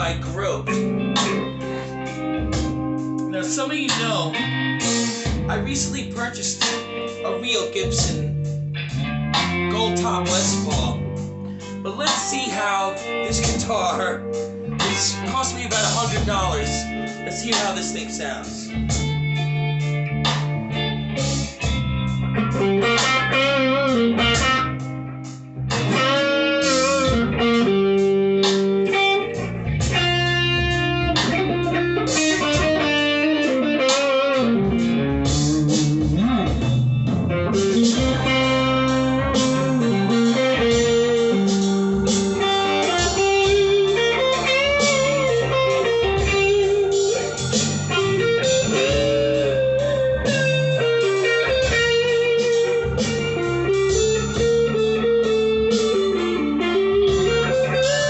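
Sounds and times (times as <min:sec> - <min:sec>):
electric guitar blues lead: 0:00.0 - 0:58.0.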